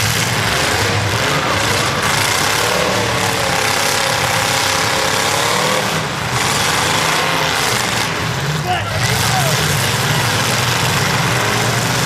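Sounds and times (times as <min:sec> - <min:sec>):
car engines running loud: 0:00.0 - 0:12.0.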